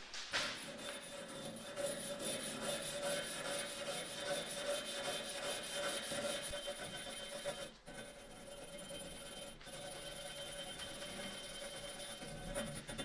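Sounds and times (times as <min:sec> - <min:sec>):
rubbing strokes: 0:00.4 - 0:13.0.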